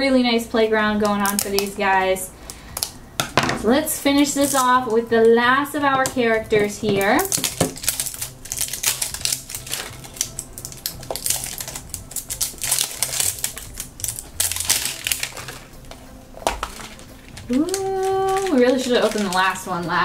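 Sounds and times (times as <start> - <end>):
plastic wrap crinkling: 1.0 - 3.0, 3.6 - 5.4, 6.1 - 20.0.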